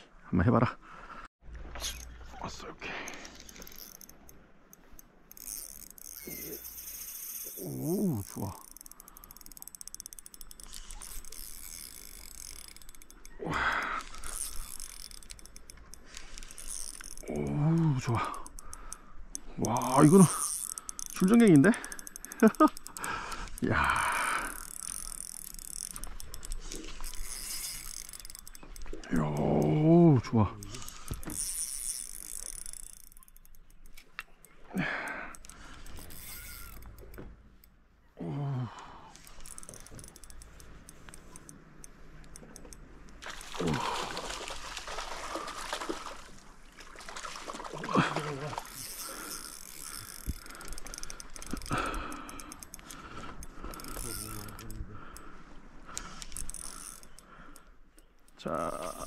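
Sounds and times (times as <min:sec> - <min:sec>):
fishing reel clicking and ratcheting: 0:02.9 - 0:37.7, 0:39.1 - 0:43.6, 0:48.6 - 0:59.0.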